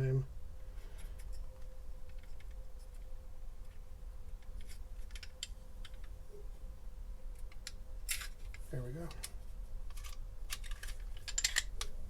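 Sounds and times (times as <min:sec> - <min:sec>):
steady low hum: 0:00.0 - 0:12.0
faint metal clicks and scrapes: 0:00.8 - 0:06.2, 0:07.3 - 0:12.0.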